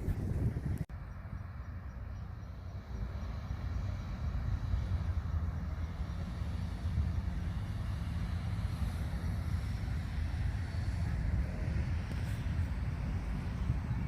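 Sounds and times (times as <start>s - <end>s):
low rumbling outdoor ambience: 0.0s - 14.0s.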